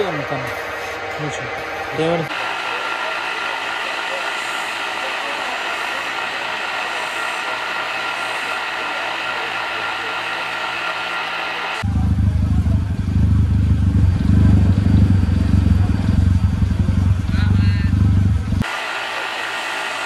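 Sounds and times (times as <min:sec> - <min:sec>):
car engine idling: 0:00.0 - 0:18.7.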